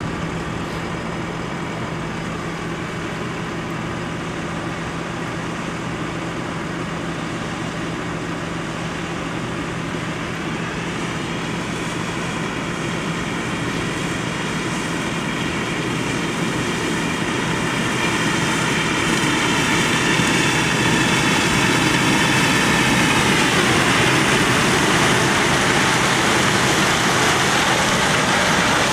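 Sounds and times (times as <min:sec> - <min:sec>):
combine harvester running: 0:00.0 - 0:28.9
tractor running: 0:00.0 - 0:28.9.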